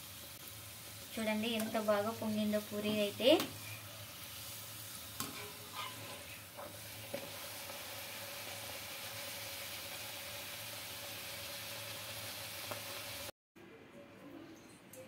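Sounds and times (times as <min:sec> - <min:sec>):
oil sizzling while deep-frying: 0:00.0 - 0:13.4.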